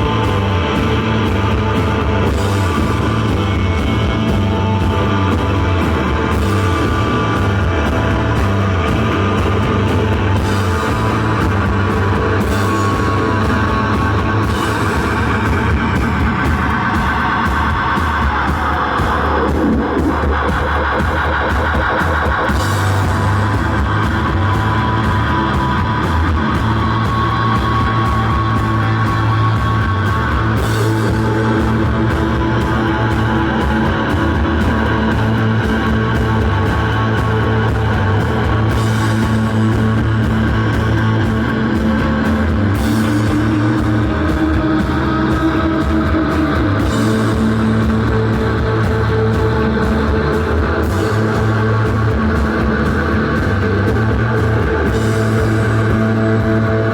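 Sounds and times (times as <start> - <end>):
live rock band playing: 0.0 - 56.9.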